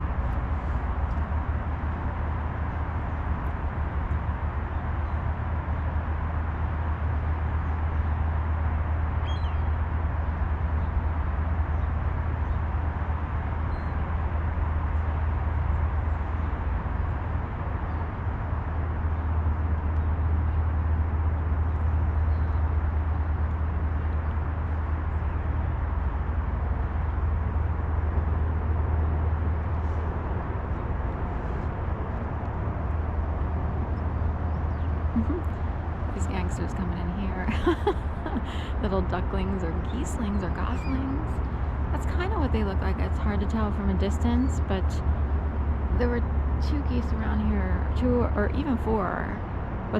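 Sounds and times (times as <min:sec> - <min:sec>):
low outdoor rumble: 0:00.0 - 0:49.9.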